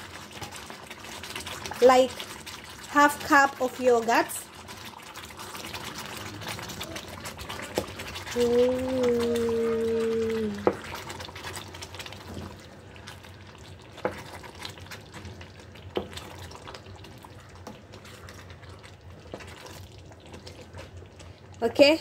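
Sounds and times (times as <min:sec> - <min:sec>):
spoon stirring in a pan: 0:00.0 - 0:21.9
soft sizzle: 0:00.0 - 0:22.0.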